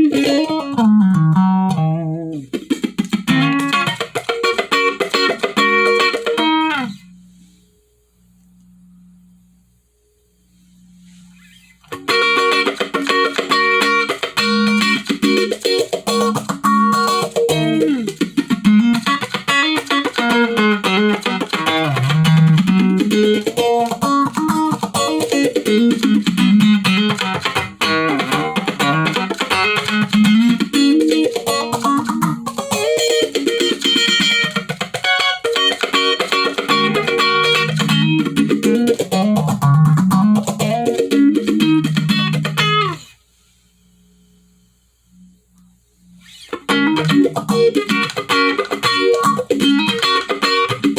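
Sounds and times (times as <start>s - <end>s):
electric guitar with phaser: 0.0s - 8.0s, 8.7s - 43.2s, 45.0s - 50.9s
faint amp hum: 0.0s - 50.9s.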